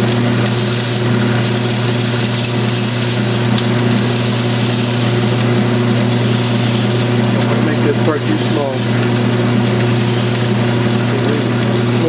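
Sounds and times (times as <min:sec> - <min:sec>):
turning tool cutting wood: 0:00.0 - 0:12.0
wood lathe motor hum: 0:00.0 - 0:12.0.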